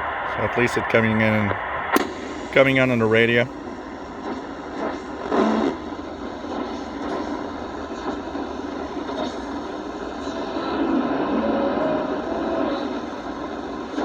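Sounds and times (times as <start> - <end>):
faint steady whistles: 0.0 - 14.0
radio static hissing: 0.0 - 14.0.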